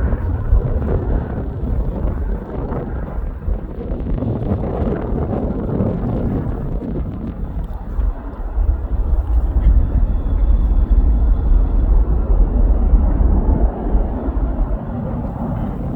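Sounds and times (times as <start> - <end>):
airliner engine rumble: 0.0 - 15.9.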